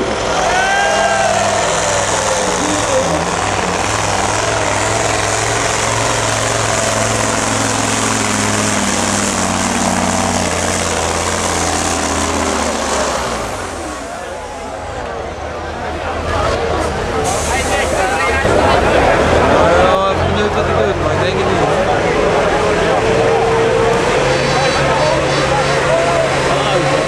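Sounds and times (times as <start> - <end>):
diesel truck engine drone: 0.0 - 27.0.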